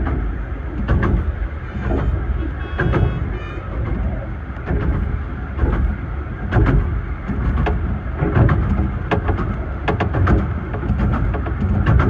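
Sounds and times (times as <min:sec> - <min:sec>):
railway carriage rumble and rattle: 0:00.0 - 0:12.0
wheels clicking and knocking: 0:00.0 - 0:12.0.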